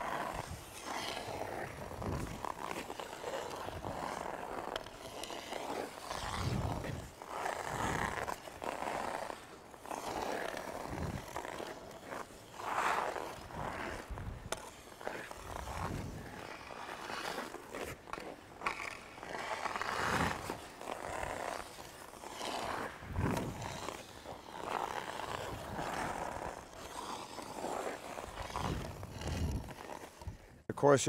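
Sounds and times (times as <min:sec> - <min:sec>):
skate blades scraping on ice: 0:00.0 - 0:30.7.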